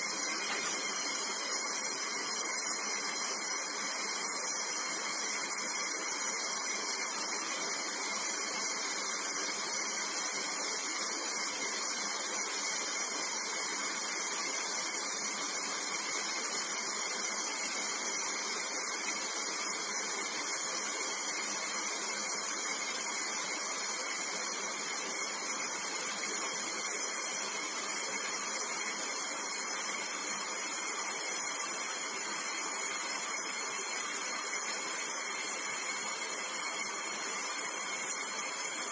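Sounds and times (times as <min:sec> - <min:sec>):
torch burning with a hiss: 0:00.0 - 0:38.9.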